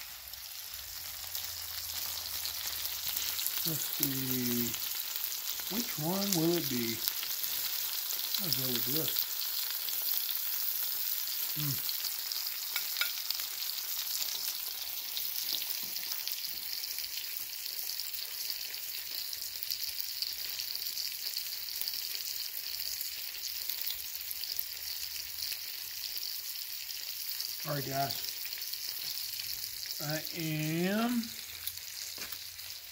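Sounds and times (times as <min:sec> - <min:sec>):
meat sizzling on griddle: 0:00.0 - 0:32.9.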